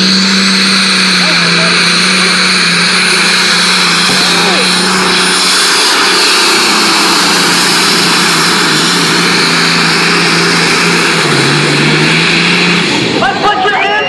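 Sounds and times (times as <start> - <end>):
diesel truck engine under load: 0.0 - 14.0
turbos whistling: 0.0 - 14.0.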